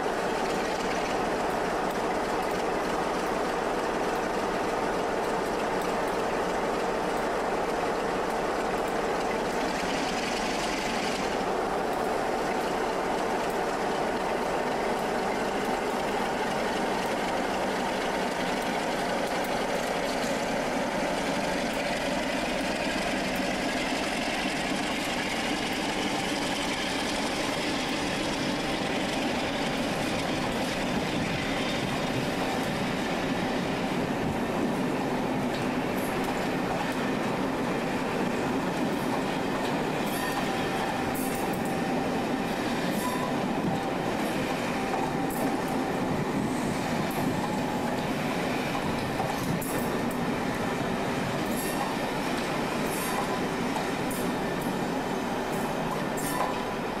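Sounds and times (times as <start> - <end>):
diesel locomotive engine: 0.0 - 57.0
train coaches rumbling on rails: 0.0 - 57.0.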